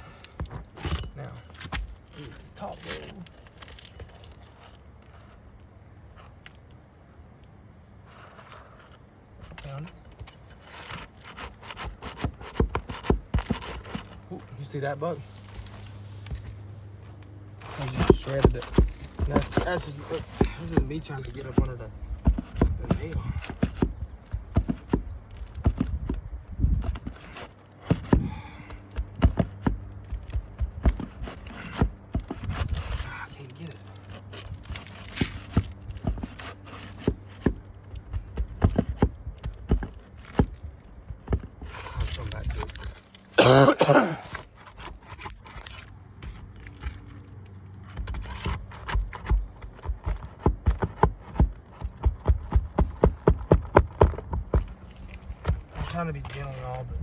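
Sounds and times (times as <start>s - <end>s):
tool scraping on shingles: 0.0s - 6.8s, 7.9s - 57.0s.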